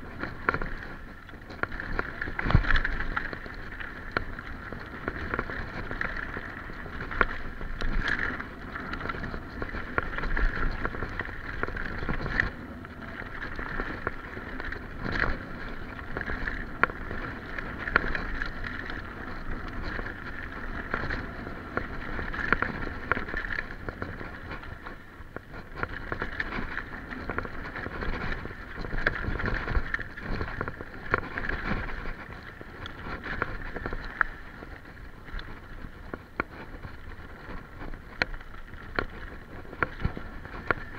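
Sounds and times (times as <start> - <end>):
bike knocking on bumps: 0.0 - 40.9
mountain bike rattling downhill: 0.0 - 40.9.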